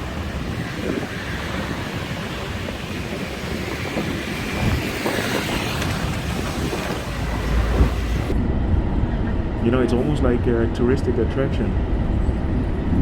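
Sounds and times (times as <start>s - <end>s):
city street traffic: 0.0s - 13.0s
wind buffeting microphone: 0.0s - 13.0s.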